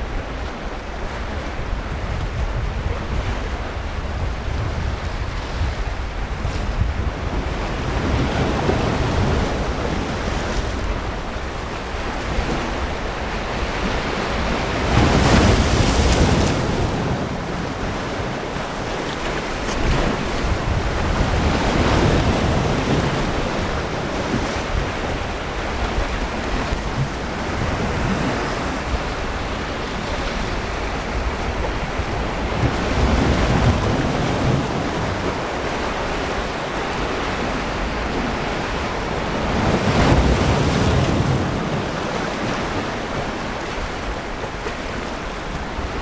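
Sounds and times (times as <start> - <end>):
sea waves breaking on beach: 0.0 - 46.0
wind rumble on microphone: 0.0 - 46.0.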